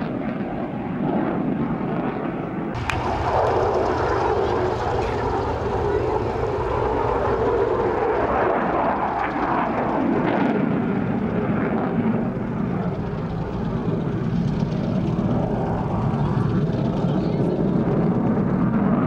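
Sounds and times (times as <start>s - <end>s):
aircraft engine flying past: 2.8s - 19.0s.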